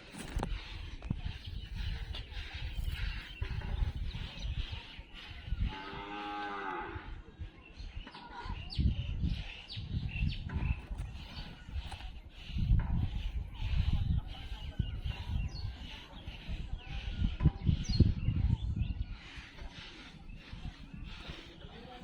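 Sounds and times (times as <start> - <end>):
low rumble of wind: 0.0 - 22.0.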